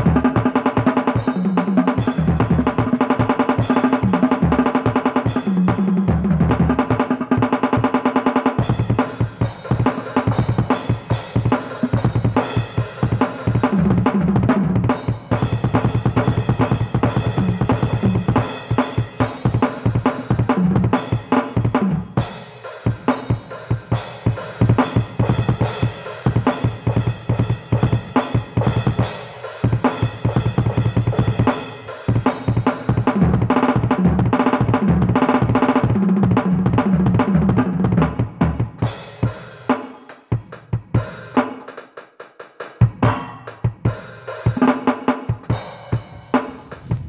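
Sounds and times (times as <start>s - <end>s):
drum kit playing: 0.0s - 47.0s.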